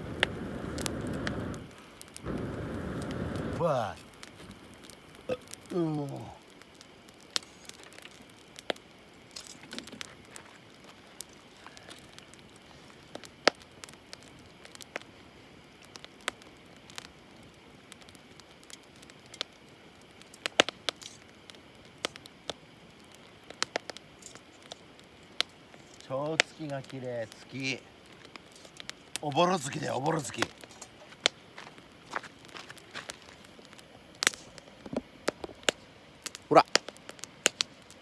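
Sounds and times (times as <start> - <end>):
campfire crackling: 0.0 - 38.0
faint steady hiss: 0.0 - 38.0
sharp pops of fire: 0.0 - 38.0.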